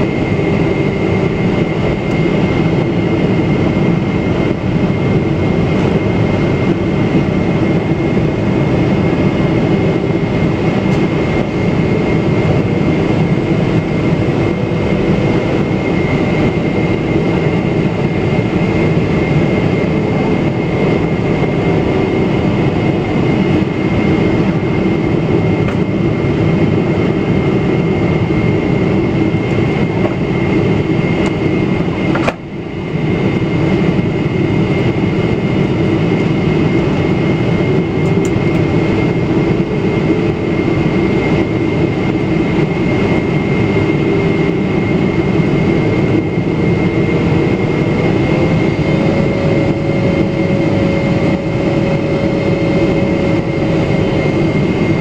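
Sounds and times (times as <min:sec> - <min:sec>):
engine and airflow rush: 0:00.0 - 0:55.0.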